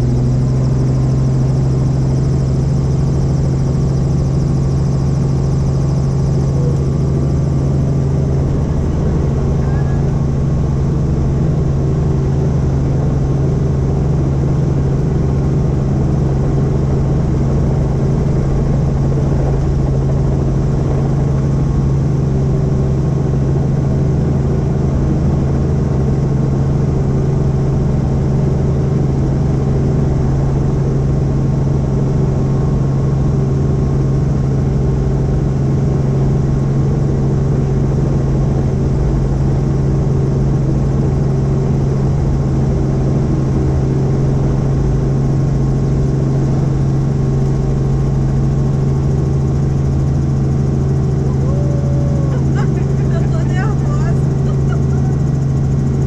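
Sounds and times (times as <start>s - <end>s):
helicopter drone in flight: 0.0s - 56.0s.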